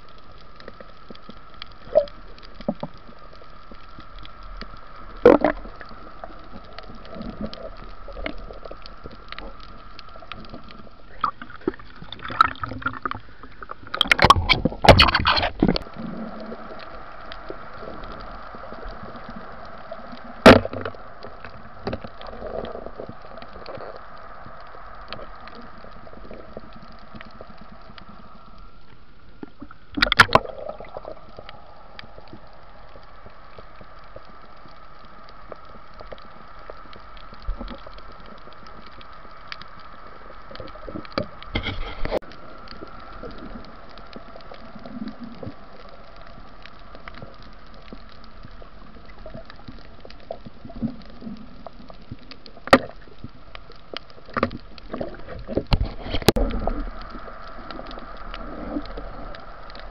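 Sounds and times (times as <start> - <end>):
faint clicks: 0.0 - 59.9
underwater steady hum: 0.0 - 59.9.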